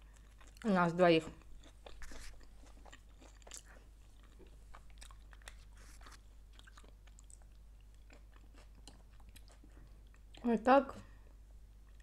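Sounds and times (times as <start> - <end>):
person chewing food: 0.0 - 0.7, 1.3 - 10.5, 11.2 - 12.0.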